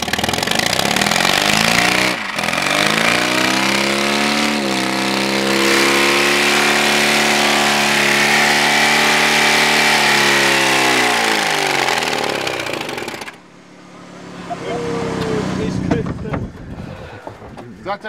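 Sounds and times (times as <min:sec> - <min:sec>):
car engine at high revs: 0:00.0 - 0:16.6.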